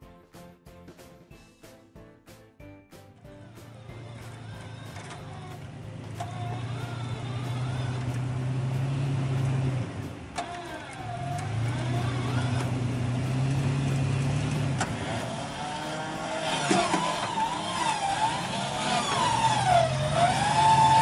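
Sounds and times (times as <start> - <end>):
truck engine pulling under load: 3.2 - 21.0.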